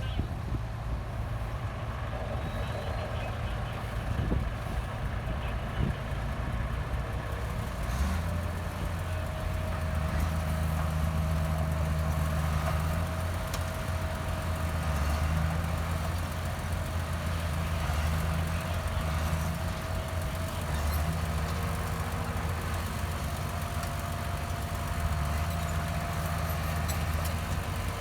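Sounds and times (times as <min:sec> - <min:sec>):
heavy diesel engine droning: 0:00.0 - 0:28.0.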